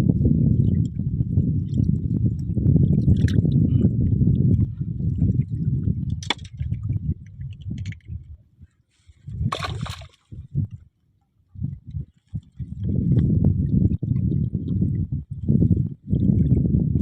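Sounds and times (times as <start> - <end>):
water sloshing and gurgling: 0.2 - 10.9, 11.6 - 17.0.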